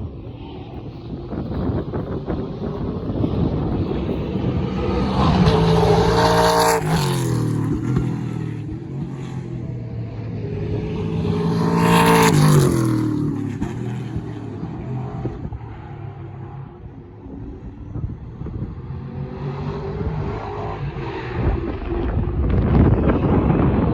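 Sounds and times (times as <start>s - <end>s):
race cars passing at speed: 0.0s - 23.9s.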